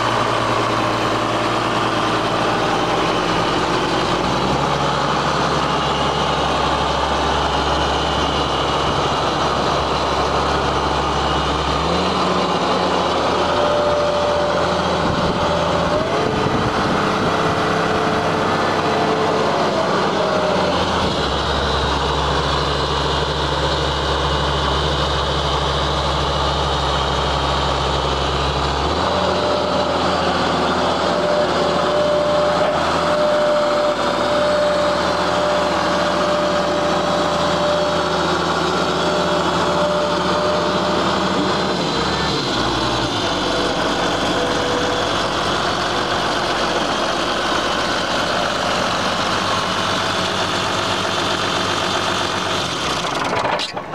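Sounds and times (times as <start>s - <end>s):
tractor diesel engine droning: 0.0s - 53.9s.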